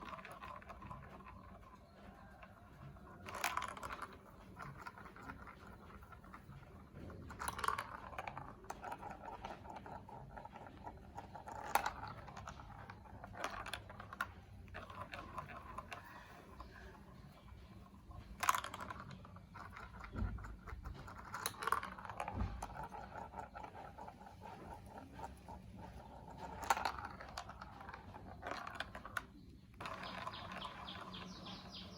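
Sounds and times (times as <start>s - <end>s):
plastic blocks clicking: 0.0s - 31.9s.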